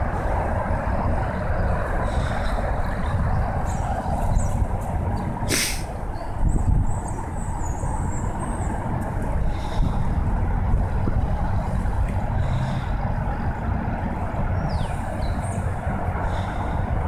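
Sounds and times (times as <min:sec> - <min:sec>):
low outdoor rumble: 0:00.0 - 0:17.0
wind buffeting microphone: 0:00.0 - 0:17.0.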